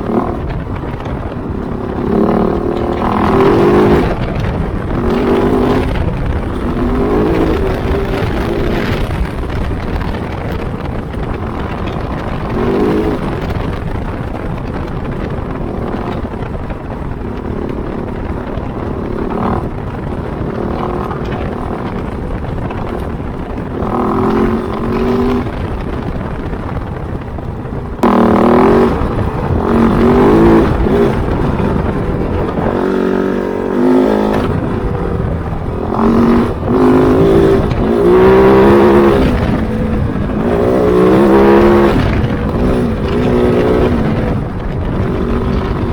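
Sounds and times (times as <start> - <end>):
motorcycle engine revving: 0.0 - 45.9
wind and tyre noise: 0.0 - 45.9.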